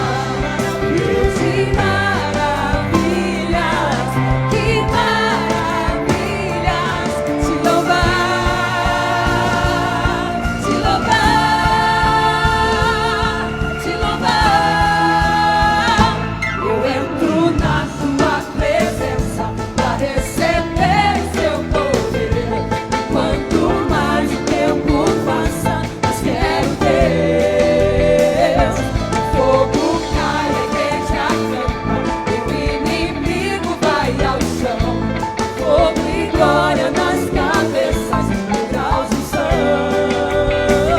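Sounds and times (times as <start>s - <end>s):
band with bass and drums: 0.0s - 40.9s
singers with vibrato: 0.0s - 40.9s.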